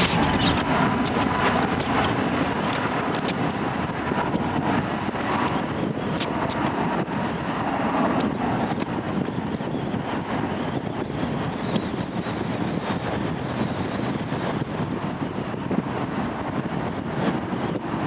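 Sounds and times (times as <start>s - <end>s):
jet engines rushing: 0.0s - 18.0s
wind buffeting microphone: 0.0s - 18.0s.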